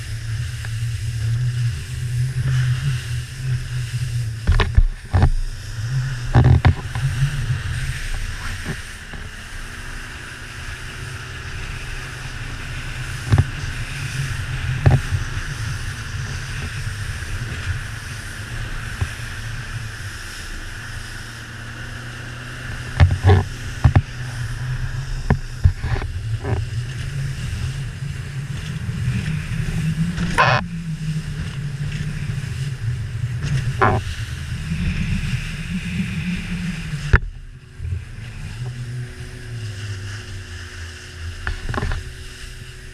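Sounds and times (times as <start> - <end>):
outboard engine rumble: 0.0 - 42.9
wind rush: 0.0 - 42.9.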